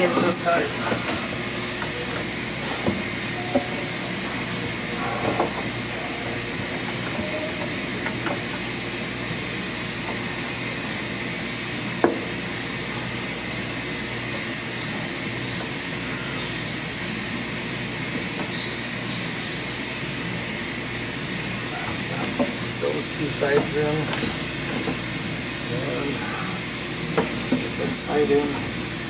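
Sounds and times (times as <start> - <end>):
air-moving machinery hiss and hum: 0.0 - 29.0.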